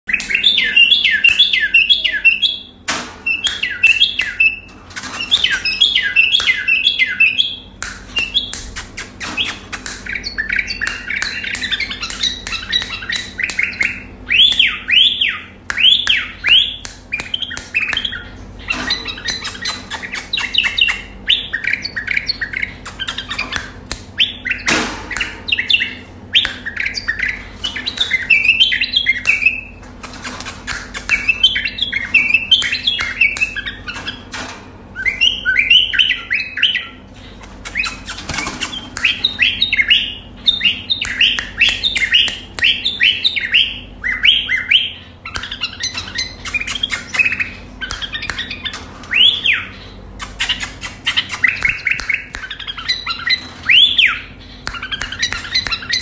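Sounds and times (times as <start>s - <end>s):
bird singing chirping phrases: 0.1s - 29.8s, 30.4s - 56.0s.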